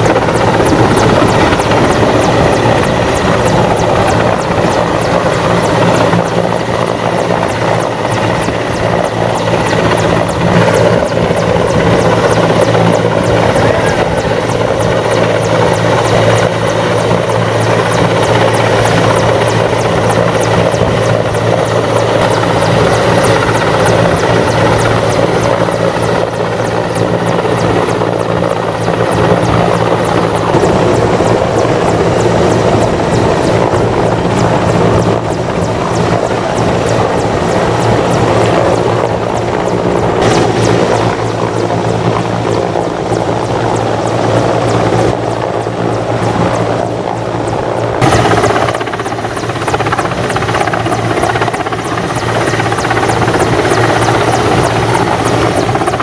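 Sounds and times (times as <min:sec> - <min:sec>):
helicopter flying low: 0:00.0 - 0:56.0.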